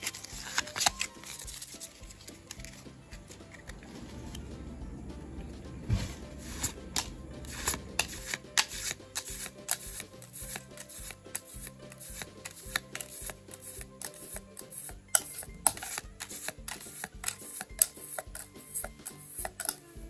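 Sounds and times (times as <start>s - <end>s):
background music with clicking beat: 0.0s - 20.0s.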